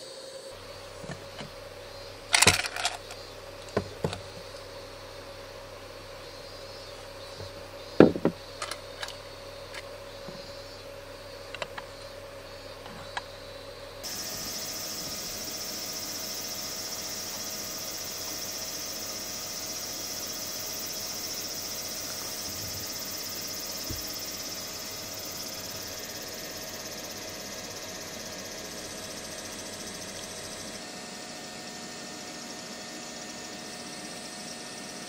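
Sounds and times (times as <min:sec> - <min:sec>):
cicadas droning: 0:00.0 - 0:35.0.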